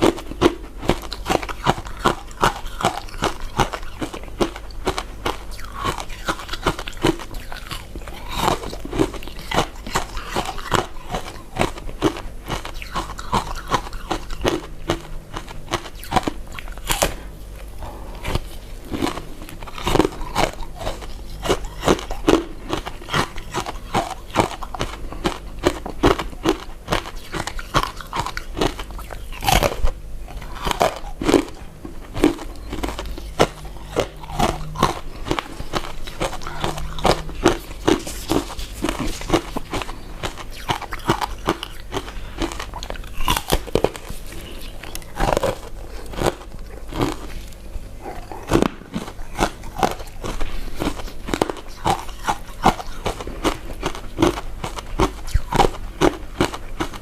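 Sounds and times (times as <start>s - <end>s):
wet chewing mouth sounds: 0.0s - 57.0s.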